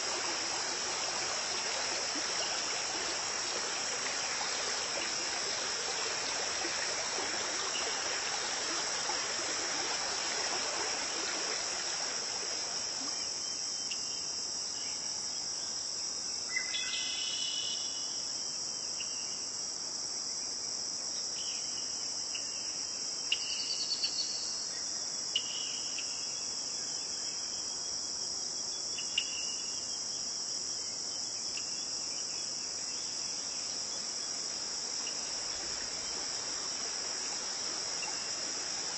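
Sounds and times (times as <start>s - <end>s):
crickets chirping chorus: 0.0s - 38.9s
running stream: 0.0s - 38.9s.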